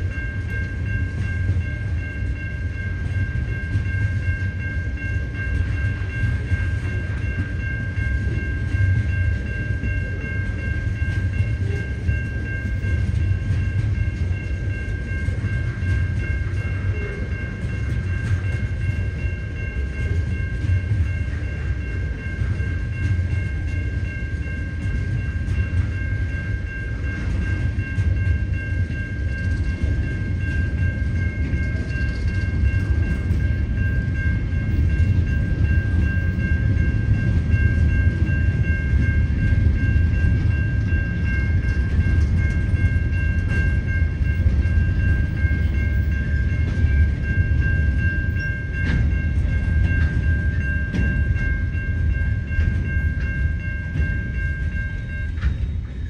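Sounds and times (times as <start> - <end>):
freight train rumbling past: 0.0 - 56.0
level crossing bell ringing: 0.0 - 56.0.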